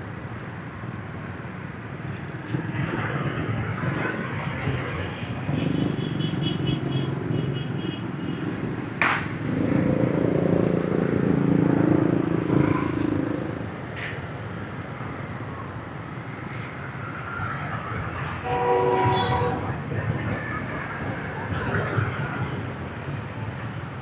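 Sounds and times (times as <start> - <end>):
motorbike engines in traffic: 0.0 - 24.0.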